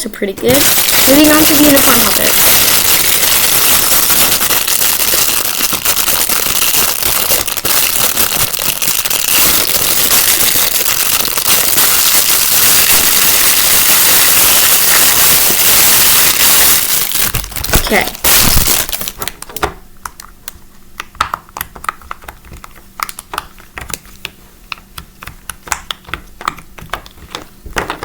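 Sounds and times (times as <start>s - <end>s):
pop-it toy crackling clicks: 0.5s - 20.2s, 21.0s - 24.0s.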